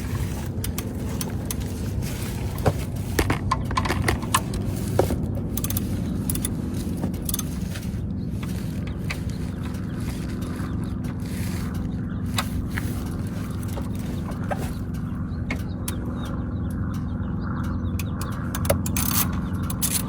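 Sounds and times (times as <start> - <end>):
light clicks and knocks: 0.0 - 16.8
car engine idling: 0.0 - 20.0.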